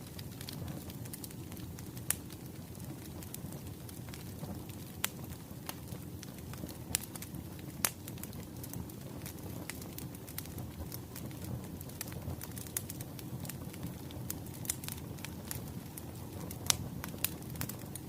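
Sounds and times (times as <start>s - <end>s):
wood fire crackling: 0.0s - 18.0s
sharp pops of burning logs: 0.1s - 18.0s.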